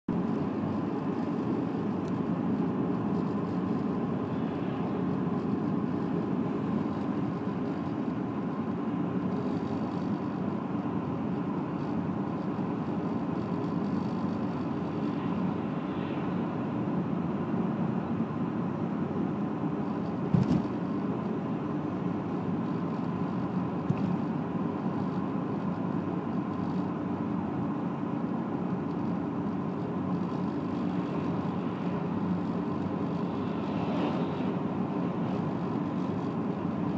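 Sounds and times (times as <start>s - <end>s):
car driving road noise: 0.1s - 36.9s.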